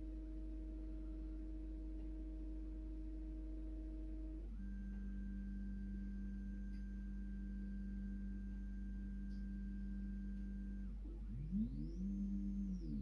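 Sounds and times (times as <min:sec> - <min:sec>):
constant low hum: 0:00.0 - 0:13.0
pure humming tone: 0:00.0 - 0:13.0.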